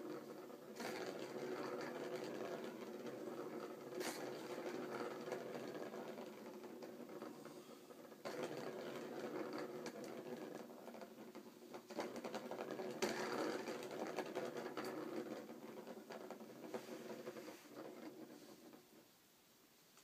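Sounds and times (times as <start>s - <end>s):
plastic ball rattling around track: 0.0s - 19.2s.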